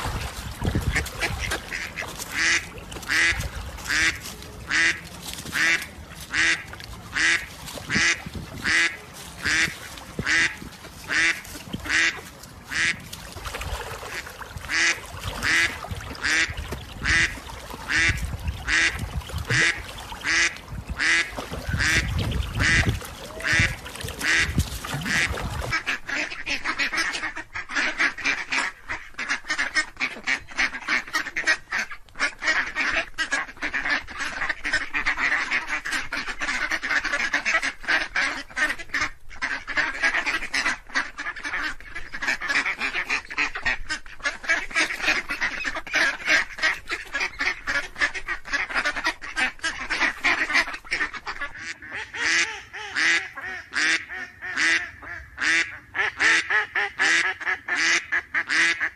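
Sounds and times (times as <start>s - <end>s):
ducks quacking: 0.0s - 58.9s.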